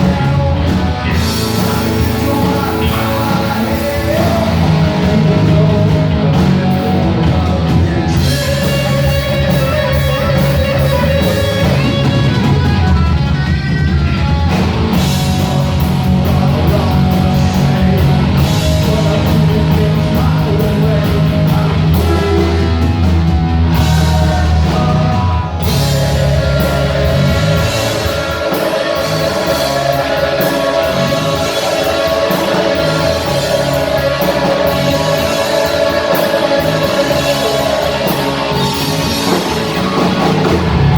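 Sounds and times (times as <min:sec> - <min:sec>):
bass guitar: 0:00.0 - 0:40.9
distorted electric guitars: 0:00.0 - 0:40.9
drums: 0:00.0 - 0:40.9.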